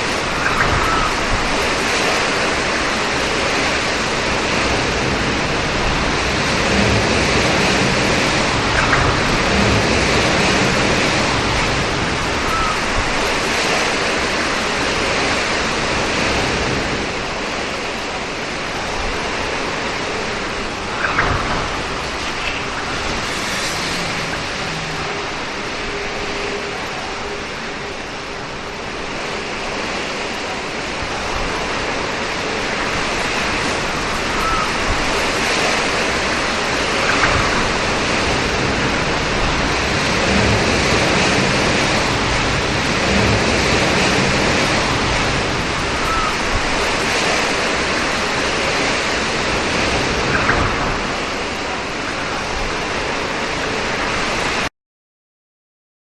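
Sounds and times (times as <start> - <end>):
steady rain: 0.0 - 54.7.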